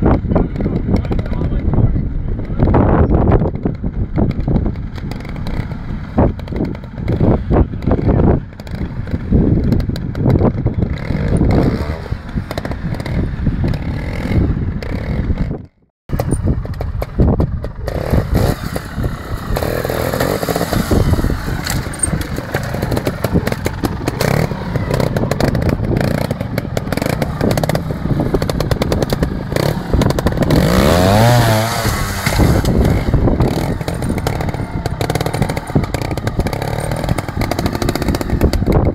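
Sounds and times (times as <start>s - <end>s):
motorcycle engine revving in bursts: 2.6s - 38.9s.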